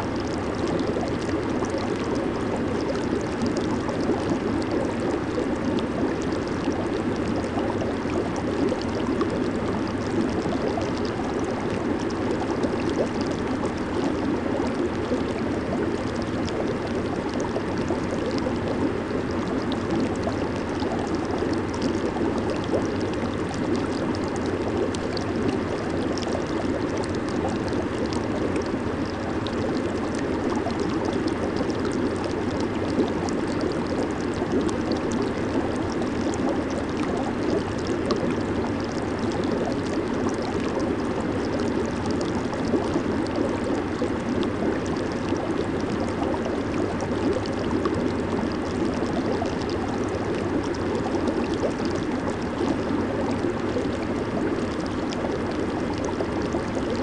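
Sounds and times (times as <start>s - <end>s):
jacuzzi water bubbling: 0.0s - 57.0s.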